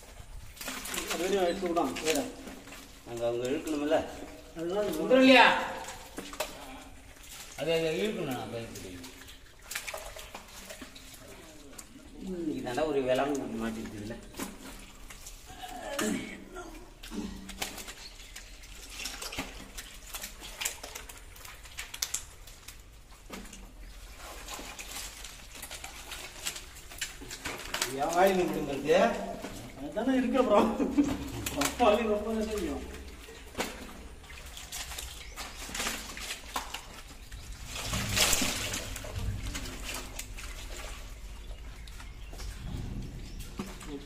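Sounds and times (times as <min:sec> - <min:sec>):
fish flapping and splashing: 0:00.0 - 0:44.0.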